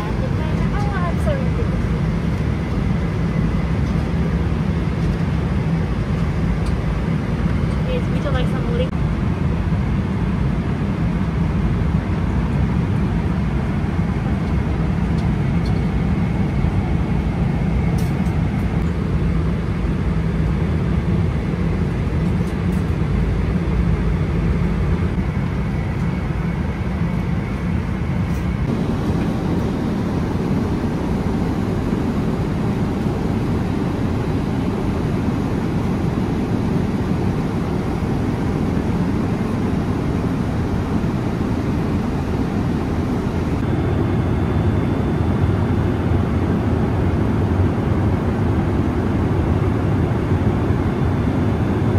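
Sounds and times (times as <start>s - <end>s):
airliner cabin engine noise: 0.0s - 51.9s.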